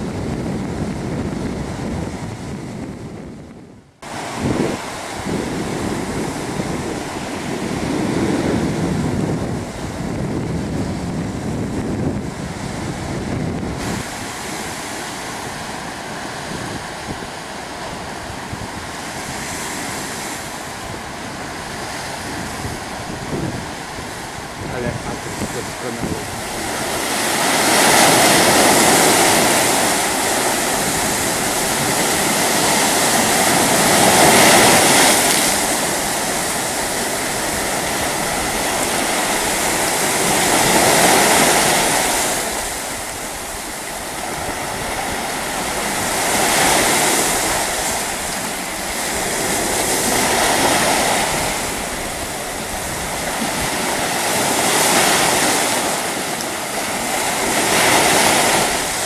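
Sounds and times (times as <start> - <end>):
sea surf breaking: 0.0 - 59.0.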